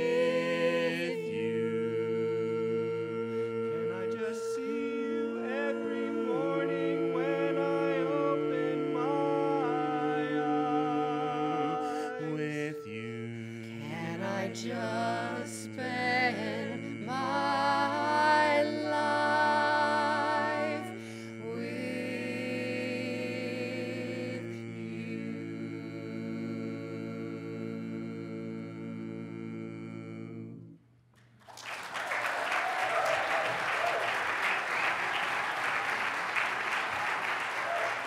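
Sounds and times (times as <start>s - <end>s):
barbershop quartet singing a cappella: 0.0s - 30.8s.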